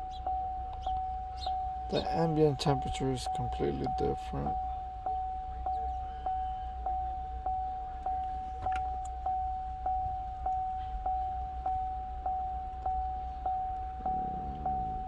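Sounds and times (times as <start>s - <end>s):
car warning chime dinging: 0.0s - 15.0s
low steady hum: 0.0s - 15.0s.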